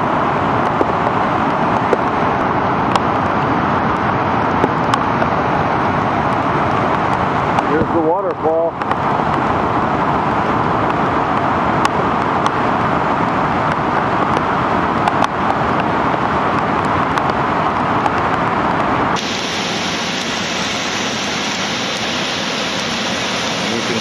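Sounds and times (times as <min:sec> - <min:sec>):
flooded river rushing: 0:00.0 - 0:24.0
waterfall rushing: 0:00.0 - 0:24.0.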